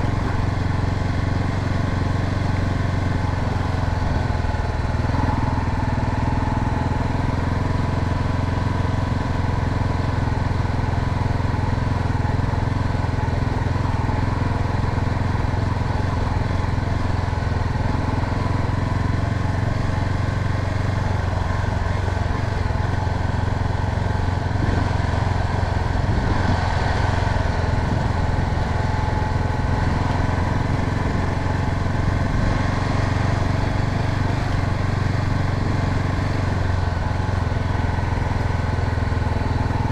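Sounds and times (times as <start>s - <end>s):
motorcycle engine running: 0.0s - 39.9s
rush of air and road noise: 0.0s - 39.9s.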